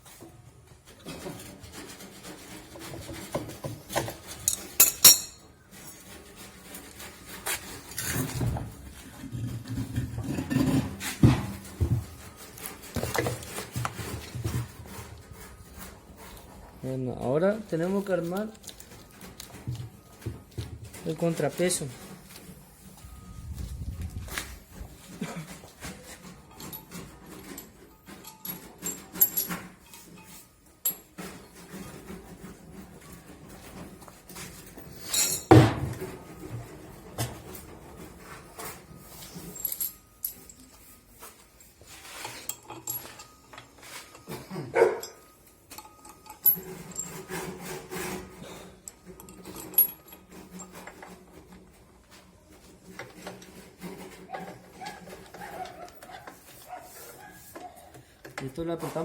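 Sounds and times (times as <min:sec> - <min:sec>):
scraping and rubbing: 0:00.0 - 0:59.0
metallic clinks and knocks: 0:03.1 - 0:16.6, 0:18.0 - 0:58.4.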